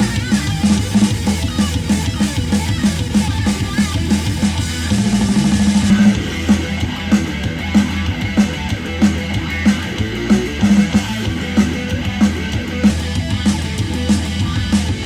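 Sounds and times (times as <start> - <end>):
instrumental music with heavy beat: 0.0 - 15.0.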